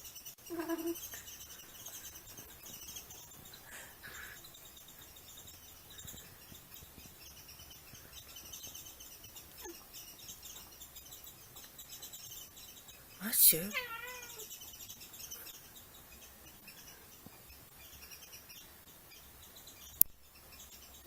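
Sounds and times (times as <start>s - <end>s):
small birds chirping trills: 0.0s - 21.0s.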